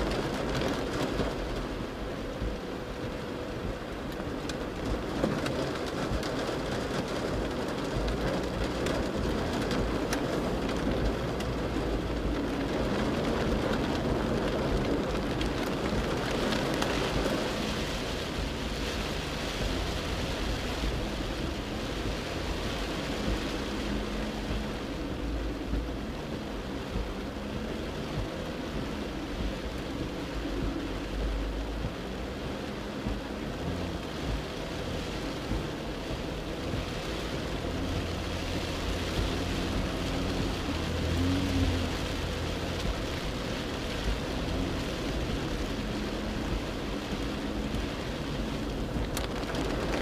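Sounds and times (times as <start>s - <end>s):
heavy rain on car: 0.0s - 50.0s
tyres through flood water: 0.0s - 50.0s.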